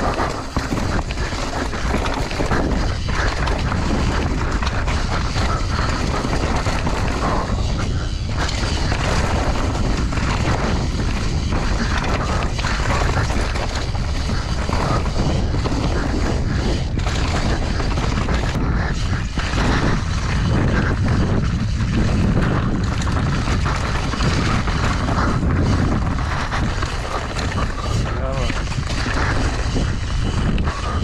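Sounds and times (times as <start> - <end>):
bike rattling: 0.0 - 31.0
wind buffeting microphone: 0.0 - 31.0.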